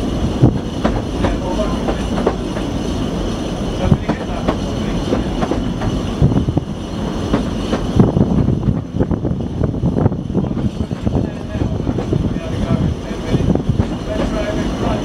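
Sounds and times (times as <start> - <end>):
train rumbling on track: 0.0 - 15.0
wheels clicking and coach rattling: 0.0 - 15.0.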